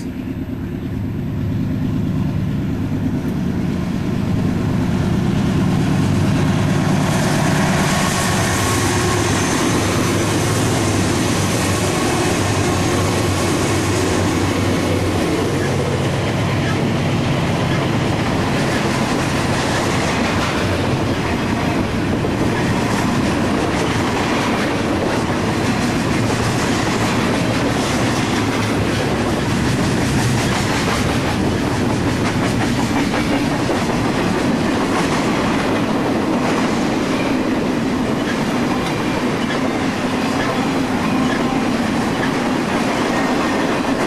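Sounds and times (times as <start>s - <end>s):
train wheels rolling on rails: 0.0s - 44.0s.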